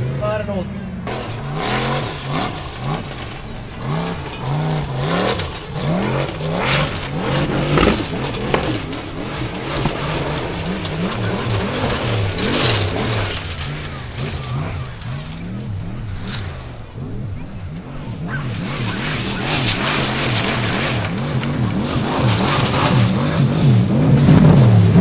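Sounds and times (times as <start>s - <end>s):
racing buggy engine revving: 0.0s - 25.0s
wheels spinning in sand: 0.0s - 25.0s.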